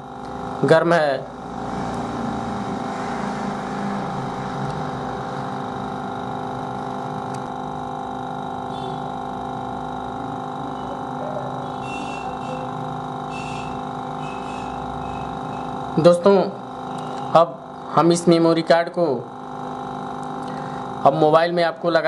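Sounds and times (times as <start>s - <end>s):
hot-air station blowing hum: 0.0s - 22.0s.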